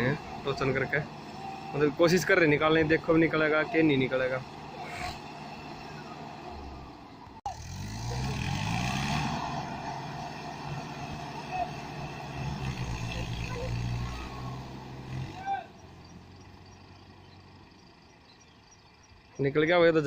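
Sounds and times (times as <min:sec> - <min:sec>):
tractor engine revving under load: 0:00.0 - 0:18.1.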